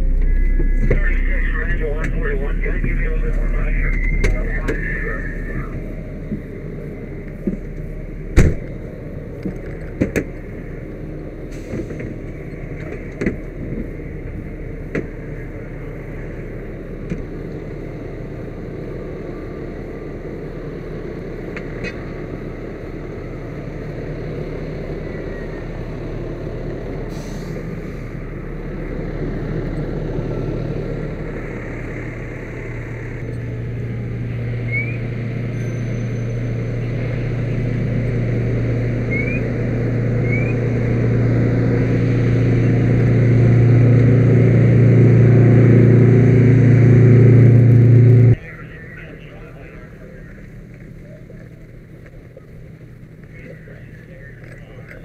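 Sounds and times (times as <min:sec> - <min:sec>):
diesel engines running: 0:00.0 - 0:55.0
low engine hum: 0:00.0 - 0:55.0.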